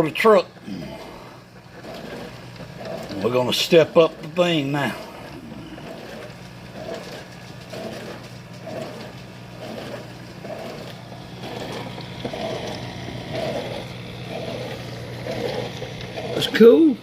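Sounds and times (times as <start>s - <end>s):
dishwasher humming: 0.0s - 17.0s
dishwasher water swishing: 1.7s - 16.8s.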